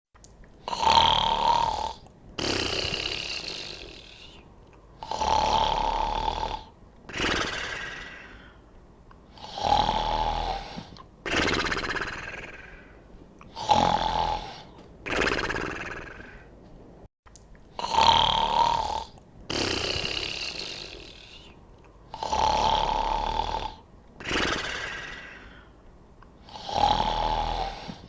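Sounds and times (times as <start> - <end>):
cartoon character snoring: 0.7 - 4.4, 5.0 - 8.6, 9.3 - 16.5, 17.8 - 25.7, 26.4 - 28.0.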